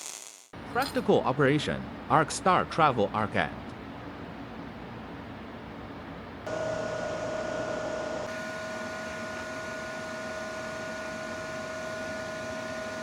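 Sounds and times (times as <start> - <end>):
machine hum with high whine: 0.6 - 13.0.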